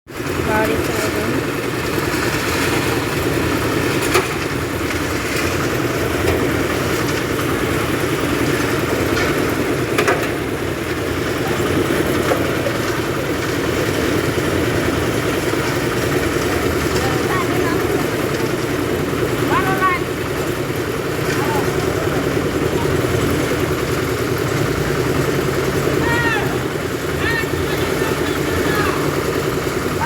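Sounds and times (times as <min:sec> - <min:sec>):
concrete mixer engine idling: 0:00.1 - 0:30.0.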